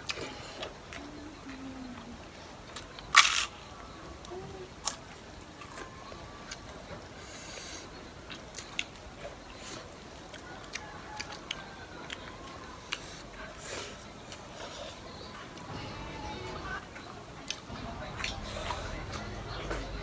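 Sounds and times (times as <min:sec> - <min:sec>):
chewing clicks and smacks: 0:00.0 - 0:20.0.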